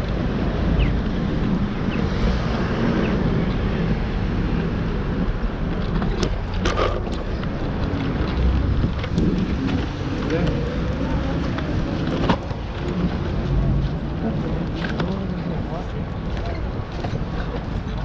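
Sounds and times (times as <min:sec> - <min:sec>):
city street traffic rumble: 0:00.0 - 0:18.0
wind buffeting microphone: 0:00.0 - 0:18.0.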